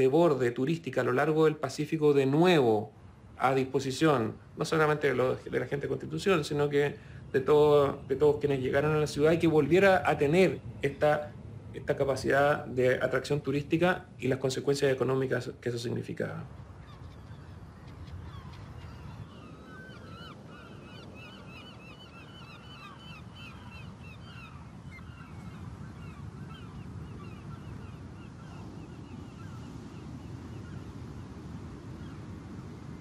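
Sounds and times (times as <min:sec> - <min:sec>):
seabirds calling: 0:00.0 - 0:33.0.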